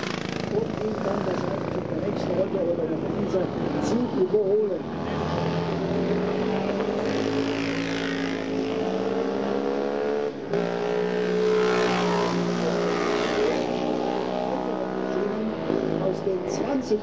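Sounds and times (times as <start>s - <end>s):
motorcycles passing at high revs: 0.0s - 17.0s.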